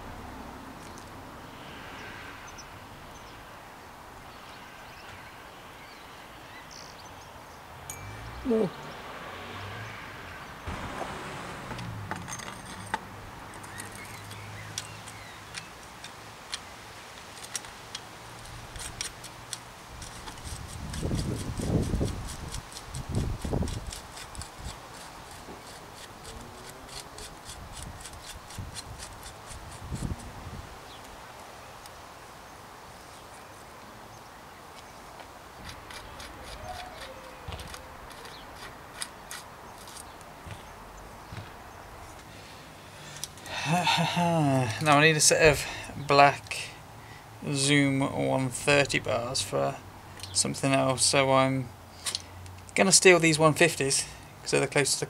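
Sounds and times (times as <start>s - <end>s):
steady low hiss: 0.0s - 9.0s, 10.6s - 36.2s, 37.9s - 55.0s.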